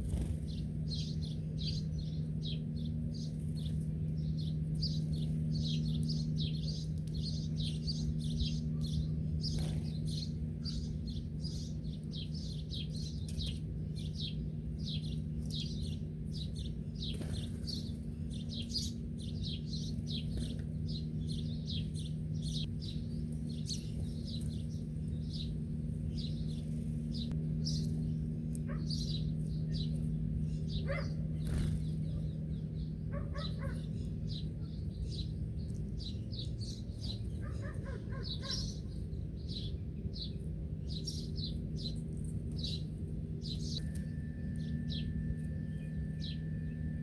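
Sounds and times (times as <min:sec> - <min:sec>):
low hum: 0:00.0 - 0:47.0
small birds chirping rapidly: 0:00.0 - 0:47.0.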